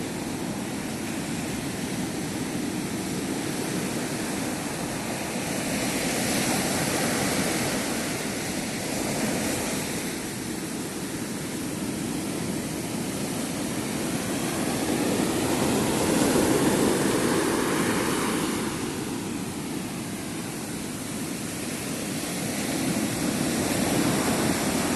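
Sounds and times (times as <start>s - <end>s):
sea surf breaking on a beach: 0.0s - 24.9s.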